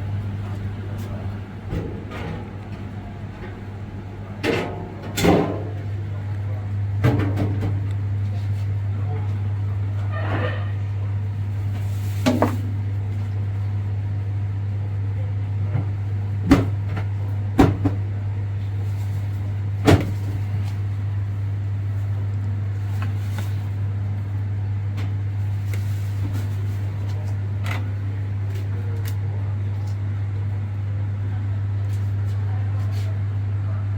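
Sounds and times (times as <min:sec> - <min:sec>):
microwave oven humming: 0:00.0 - 0:33.9.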